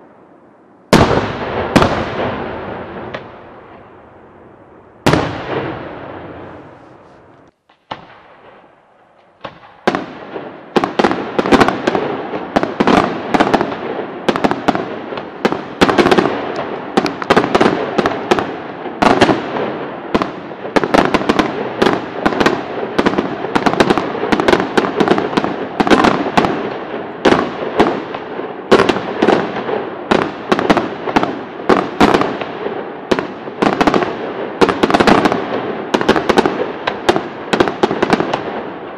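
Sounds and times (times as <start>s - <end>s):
firework crack: 0.9s - 4.1s, 4.9s - 38.9s
firework bangs: 0.9s - 38.9s.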